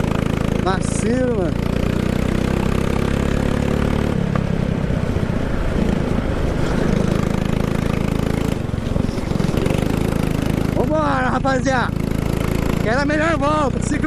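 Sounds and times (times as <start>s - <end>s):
go-kart engine running: 0.0s - 14.0s.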